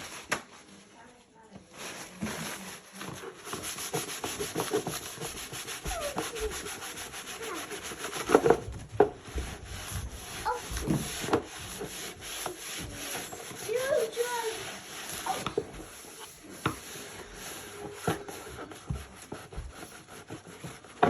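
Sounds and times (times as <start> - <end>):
scrubbing strokes on plastic: 0.0 - 21.0.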